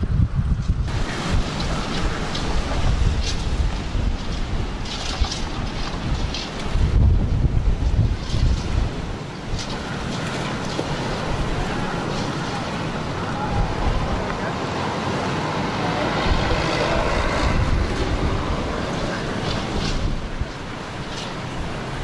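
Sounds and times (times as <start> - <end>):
strong wind blowing: 0.0 - 22.0
wind buffeting microphone: 0.0 - 22.0.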